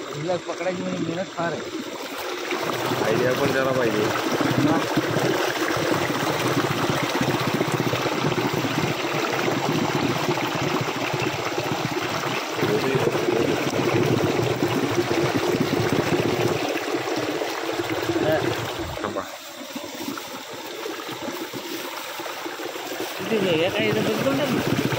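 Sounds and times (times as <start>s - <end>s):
stream water flowing: 0.0s - 24.9s.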